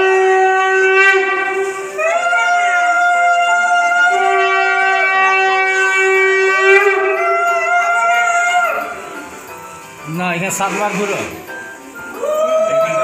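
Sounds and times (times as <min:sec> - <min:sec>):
conch shells blown: 0:00.0 - 0:09.9, 0:10.6 - 0:12.0.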